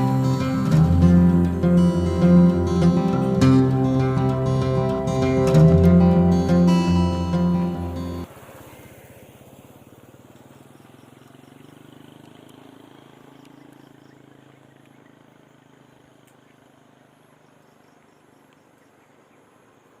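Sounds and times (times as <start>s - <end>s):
small engine running: 0.0s - 7.0s, 7.9s - 18.8s.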